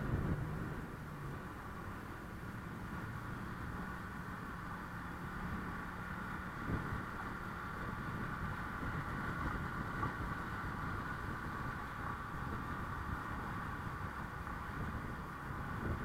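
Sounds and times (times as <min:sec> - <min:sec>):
road noise: 0:00.0 - 0:16.0
wind noise: 0:00.0 - 0:16.0.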